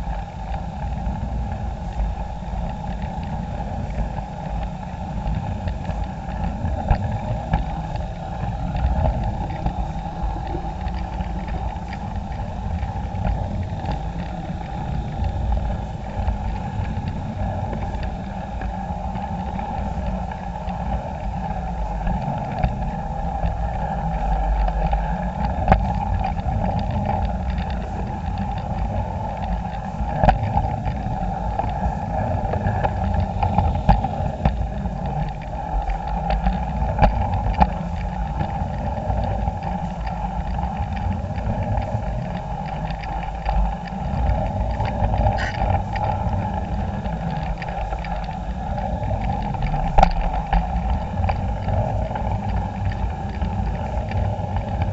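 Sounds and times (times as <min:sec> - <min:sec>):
wheels rumbling on rail: 0:00.0 - 0:54.9.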